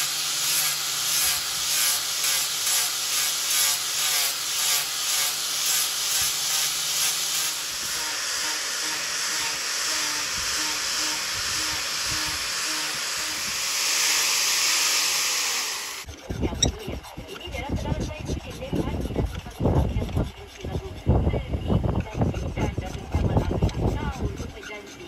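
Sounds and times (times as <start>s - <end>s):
angle grinder sanding: 0.0s - 25.0s.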